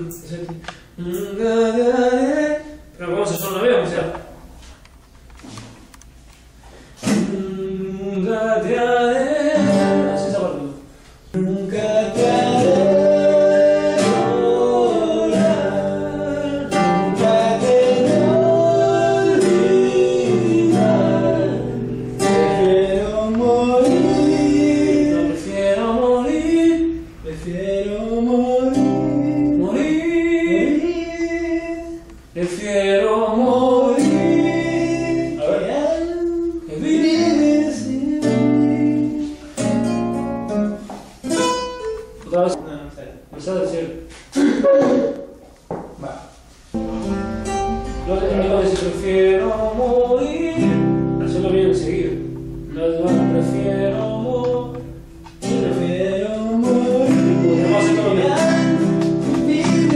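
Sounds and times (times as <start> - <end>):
man singing: 0.0 - 3.6, 7.0 - 39.6, 47.0 - 59.9
acoustic guitar: 0.0 - 59.9.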